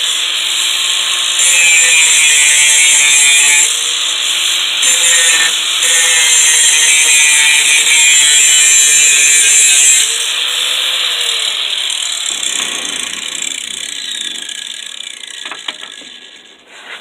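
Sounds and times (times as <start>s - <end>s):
angle grinder grinding metal: 0.0s - 17.0s.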